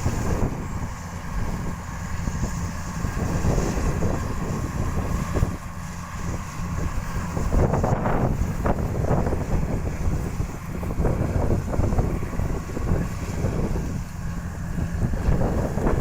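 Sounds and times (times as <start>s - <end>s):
combine harvester engine rumble: 0.0s - 16.0s
wind buffeting the microphone: 0.0s - 16.0s.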